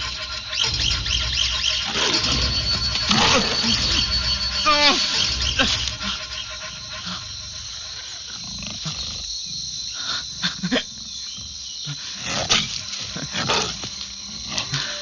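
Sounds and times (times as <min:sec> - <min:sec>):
jaguar growling low: 0:00.0 - 0:15.0.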